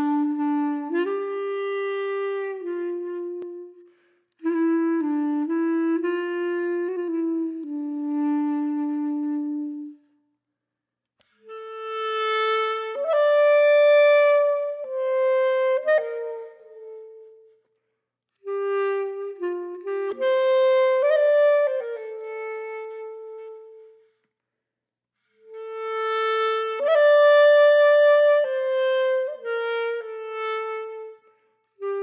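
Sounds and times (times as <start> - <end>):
slow solo wind instrument melody: 0.0 - 10.4, 11.2 - 24.4, 25.2 - 32.0.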